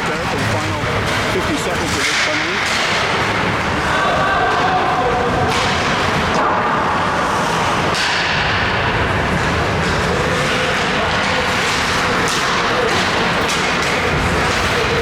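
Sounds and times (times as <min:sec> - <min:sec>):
crowd noise: 0:00.0 - 0:15.0
skates on ice: 0:00.1 - 0:04.0, 0:04.6 - 0:15.0.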